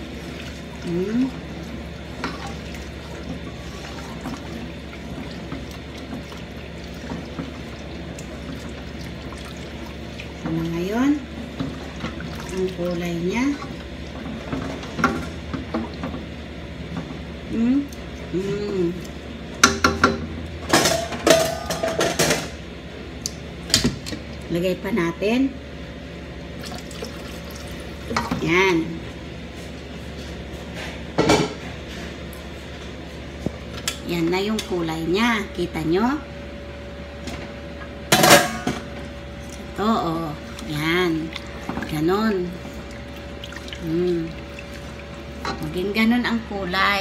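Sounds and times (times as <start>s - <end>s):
broth sloshing in a pot: 0.0s - 35.6s, 36.3s - 47.0s.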